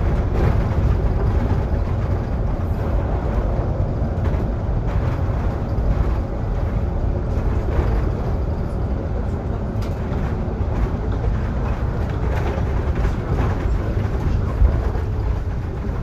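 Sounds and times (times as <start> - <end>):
bus rumbling from inside: 0.0 - 16.0.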